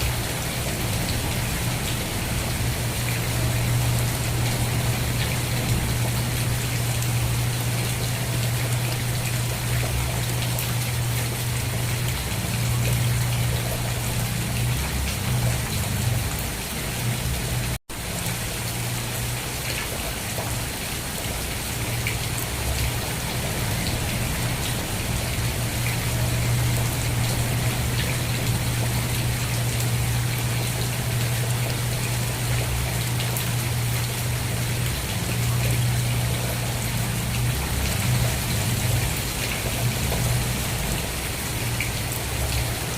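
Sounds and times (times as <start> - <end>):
steady rainfall: 0.0 - 42.9.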